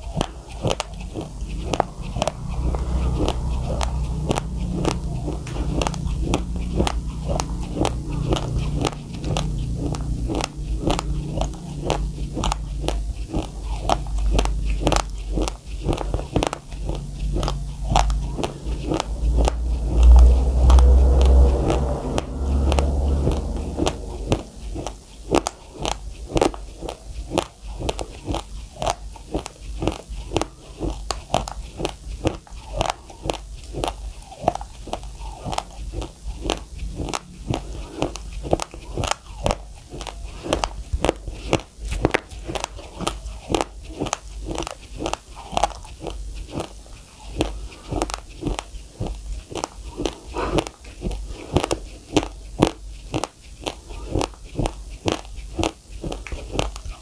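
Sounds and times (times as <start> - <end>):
low rumble: 0.0 - 53.0
rice crunching being chewed: 0.0 - 57.0.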